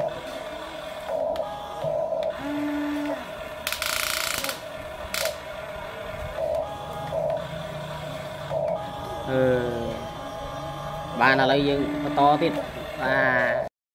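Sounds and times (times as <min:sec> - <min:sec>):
small electric motors whining: 0:00.0 - 0:13.7
gear noise: 0:01.7 - 0:13.7.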